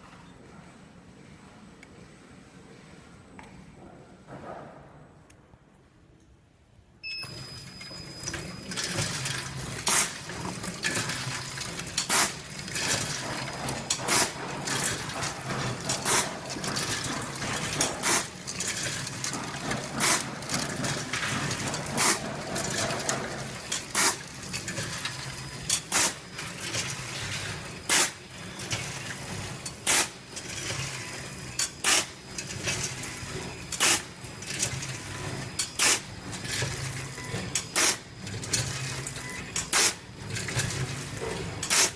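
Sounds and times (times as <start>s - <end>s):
packing machine clacking: 7.2s - 41.9s
machine rattling: 7.3s - 41.9s.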